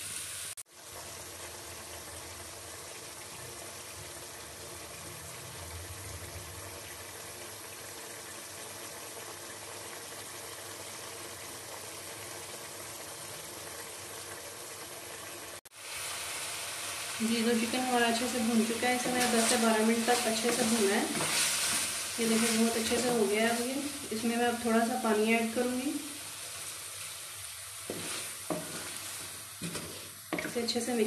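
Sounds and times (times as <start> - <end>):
chicken sizzling in a pan: 0.0 - 31.0.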